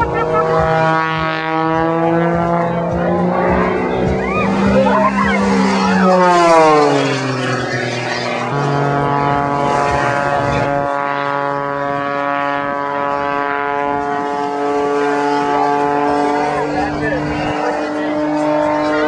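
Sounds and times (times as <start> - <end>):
propeller airplane engine droning: 0.0 - 19.0.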